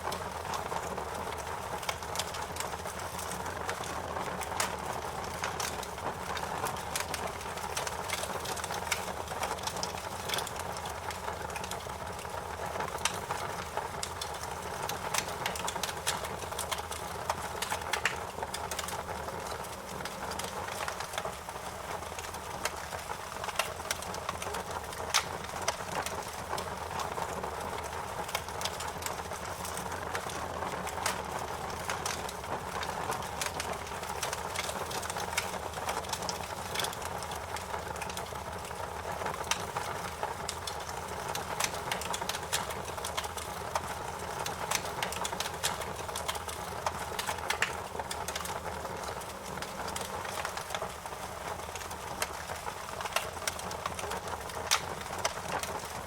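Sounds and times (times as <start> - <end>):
fire crackles and pops: 0.0 - 56.0
wood fire burning: 0.0 - 56.0.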